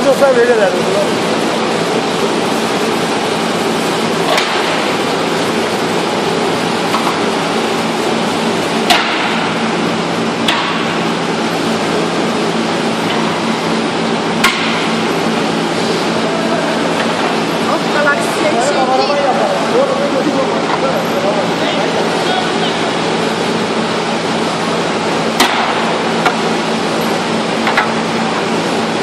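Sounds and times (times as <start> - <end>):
faint machine hum: 0.0 - 29.0
packaging machine running: 0.0 - 29.0.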